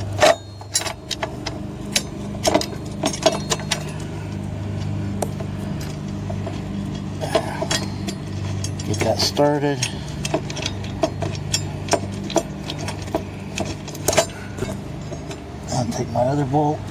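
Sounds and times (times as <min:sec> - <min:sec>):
steady low hum: 0:00.0 - 0:16.9
metal clicks and clinks: 0:00.2 - 0:04.4, 0:05.2 - 0:16.1.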